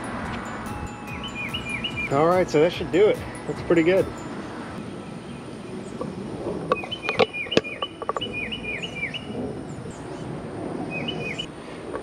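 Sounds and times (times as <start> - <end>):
bird chirping: 0.0 - 6.1, 6.7 - 10.2, 10.9 - 11.5.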